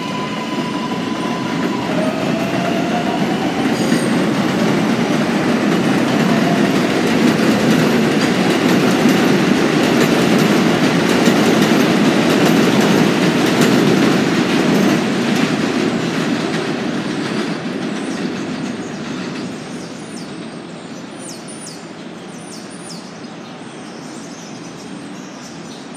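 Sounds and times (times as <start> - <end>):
subway train on elevated track: 0.0 - 25.9.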